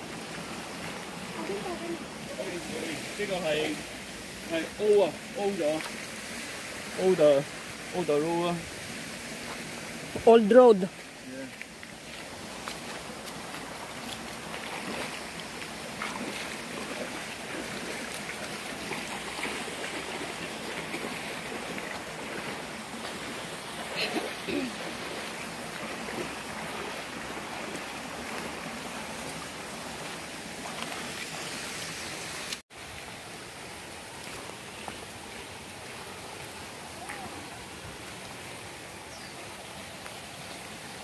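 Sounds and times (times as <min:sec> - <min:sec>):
stream water rushing over rocks: 0:00.0 - 0:41.0.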